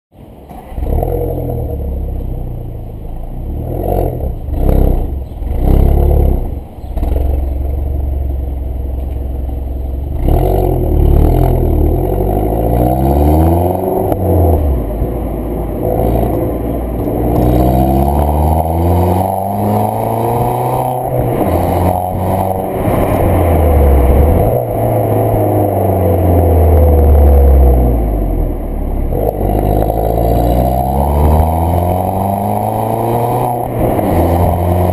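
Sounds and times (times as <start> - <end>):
car exhaust revving: 0.5 - 34.9.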